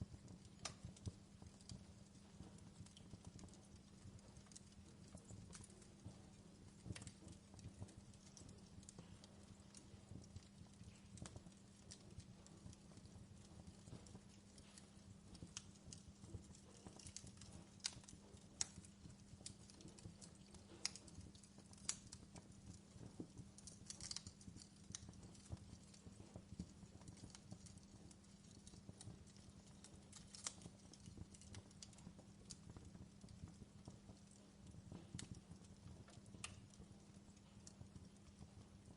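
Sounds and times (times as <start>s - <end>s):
logs crackling in fireplace: 0.0s - 38.9s.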